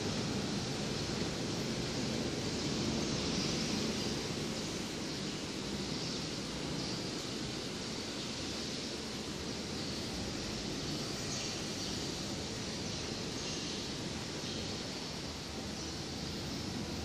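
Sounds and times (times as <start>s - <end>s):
factory hall hiss and rumble: 0.0s - 17.0s.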